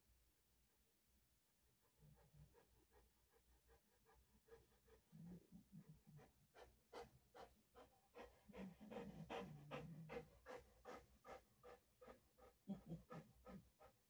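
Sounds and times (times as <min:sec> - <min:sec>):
large dog panting: 0:01.7 - 0:14.0.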